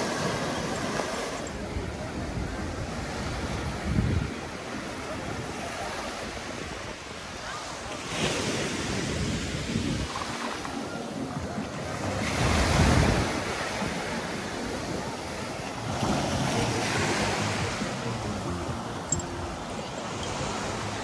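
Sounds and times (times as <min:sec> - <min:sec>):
wind rumbling on microphone: 0:00.0 - 0:19.7
surf breaking on a beach: 0:00.0 - 0:21.0.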